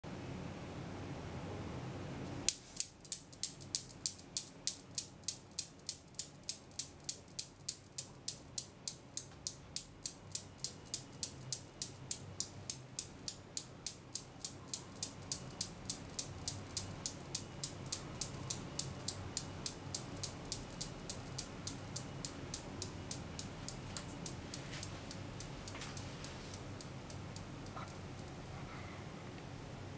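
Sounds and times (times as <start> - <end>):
metal balls clacking: 2.8 - 28.4.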